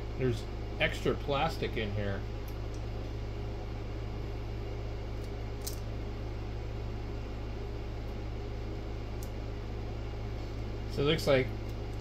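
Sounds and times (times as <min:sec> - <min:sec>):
fan-like hiss: 0:00.0 - 0:12.0
low electrical hum: 0:00.0 - 0:12.0.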